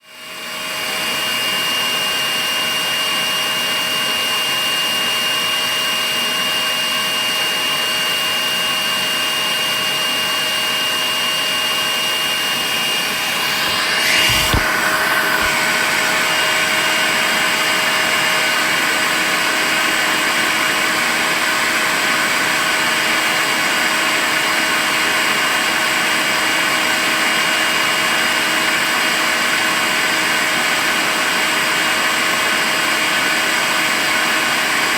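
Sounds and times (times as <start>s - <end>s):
cordless vacuum cleaner whirring: 0.0s - 34.9s.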